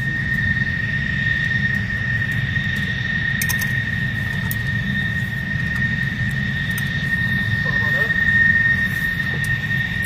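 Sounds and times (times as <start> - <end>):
jet turbine whine: 0.0 - 10.0.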